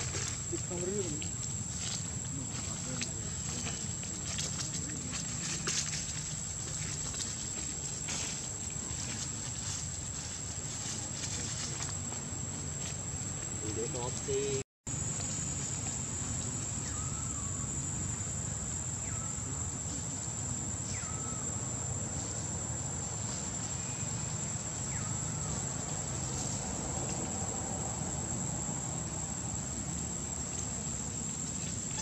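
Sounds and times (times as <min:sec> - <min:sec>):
insects buzzing high whine: 0:00.0 - 0:32.0.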